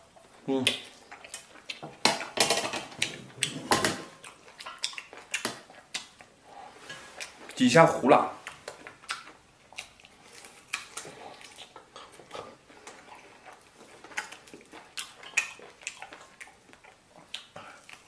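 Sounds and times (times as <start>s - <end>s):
chewing meat: 0.0s - 7.6s, 8.4s - 18.0s.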